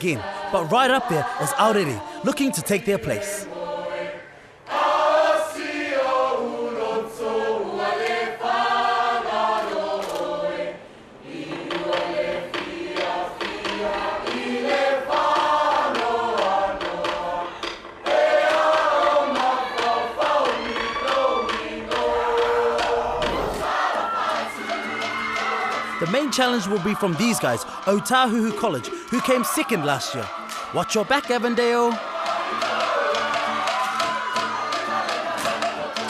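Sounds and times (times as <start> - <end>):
group of students singing: 0.0 - 30.8, 32.0 - 36.0.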